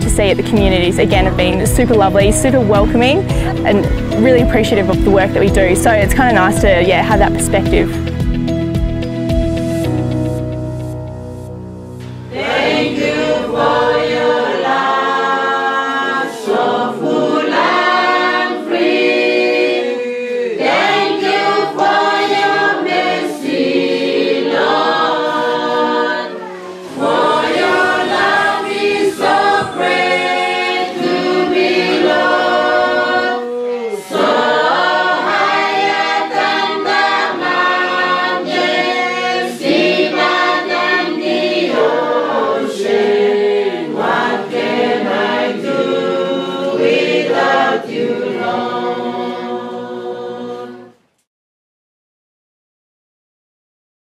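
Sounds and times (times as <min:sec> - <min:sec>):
choir singing unaccompanied: 0:00.0 - 0:08.2, 0:12.0 - 0:51.0.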